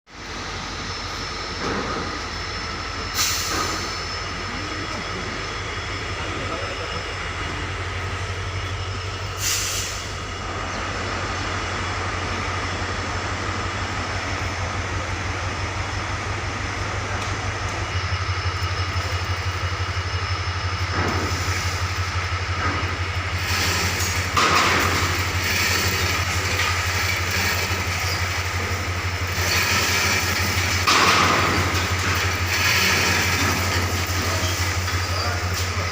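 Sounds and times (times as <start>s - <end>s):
heavy engine pulsing: 0.1s - 35.9s.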